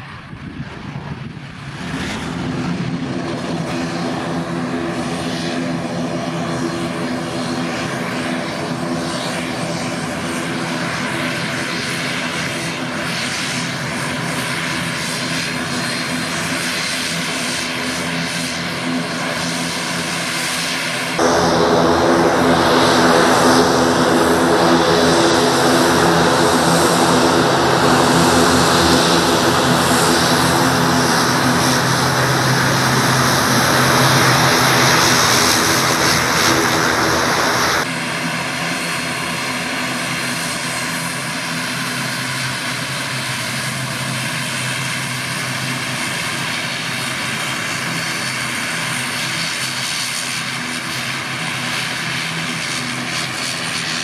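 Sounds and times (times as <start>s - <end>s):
turboprop propeller drone: 0.0s - 54.0s.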